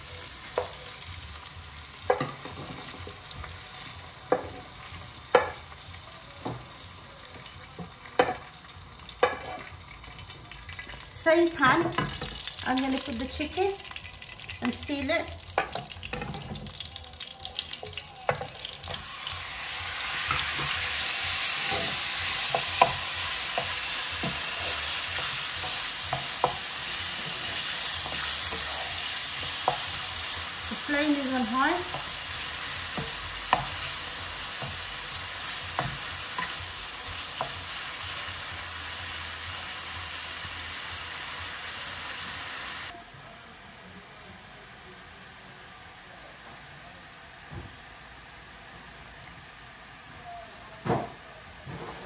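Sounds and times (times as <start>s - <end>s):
meat sizzling in hot oil: 0.0s - 43.0s.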